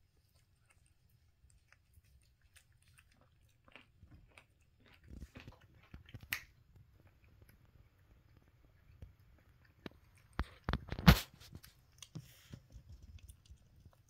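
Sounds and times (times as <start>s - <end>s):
kitten chewing: 0.0s - 14.0s.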